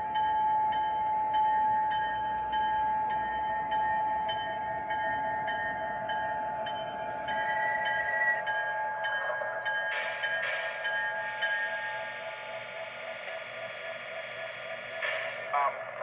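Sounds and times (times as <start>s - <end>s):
locomotive bell ringing: 0.0s - 16.0s.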